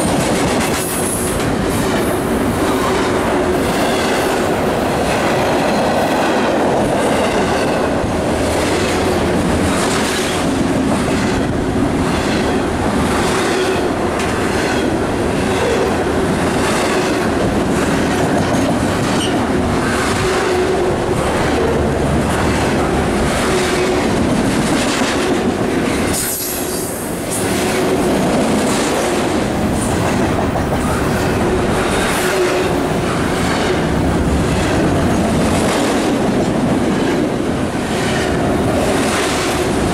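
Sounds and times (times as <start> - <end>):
freight train rumble: 0.0 - 39.9
train wheels clicking over rail joints: 0.0 - 39.9.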